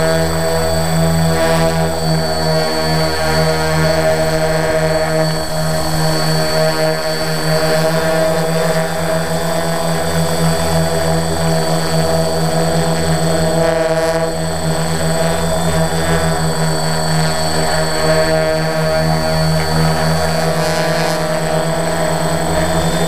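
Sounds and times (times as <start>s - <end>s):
drone motors droning hum: 0.0s - 23.0s
high propeller whine: 0.0s - 23.0s.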